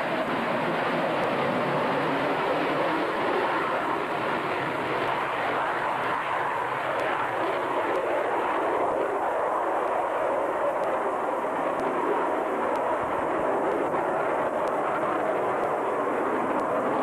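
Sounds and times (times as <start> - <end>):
jet engine rushing: 0.0 - 17.0.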